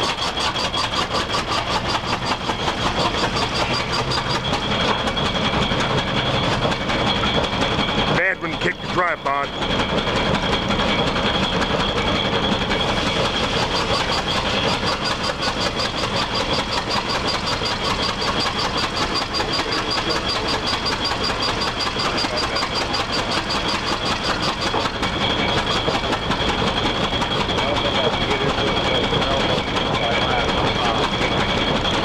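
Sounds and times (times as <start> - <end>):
tractor engine running: 0.0 - 32.0
high-pitched whine: 1.1 - 8.3, 10.4 - 32.0.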